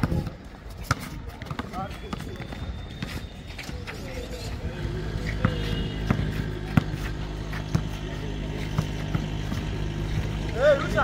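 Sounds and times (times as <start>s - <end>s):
basketball bouncing on pavement: 0.0s - 3.9s, 4.8s - 11.0s.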